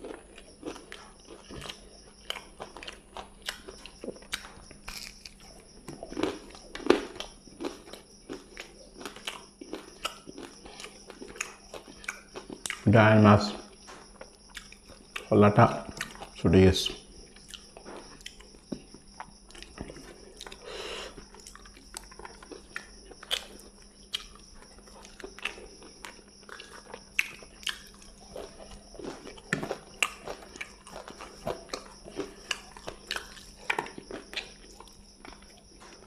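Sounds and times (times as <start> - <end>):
person chewing food: 0.0 - 12.8, 13.7 - 16.4, 17.0 - 36.0.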